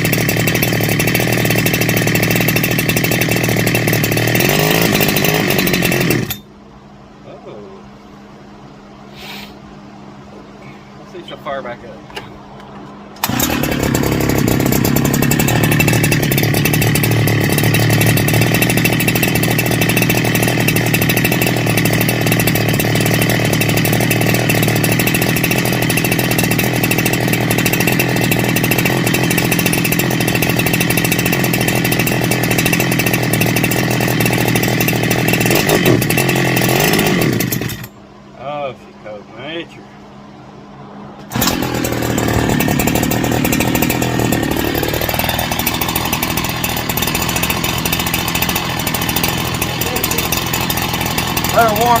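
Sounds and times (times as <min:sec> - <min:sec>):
chainsaw engine running: 0:00.0 - 0:06.5, 0:13.2 - 0:38.0, 0:41.3 - 0:52.0.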